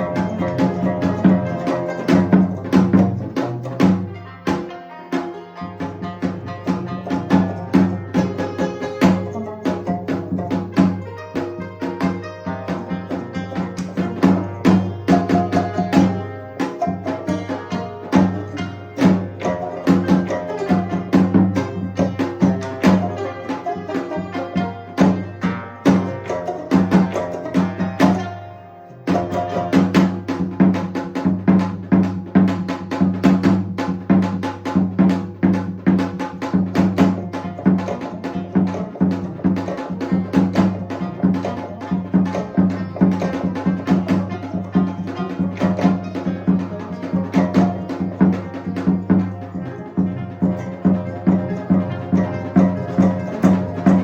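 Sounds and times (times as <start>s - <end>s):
fast drum and block strokes: 0.0s - 54.0s.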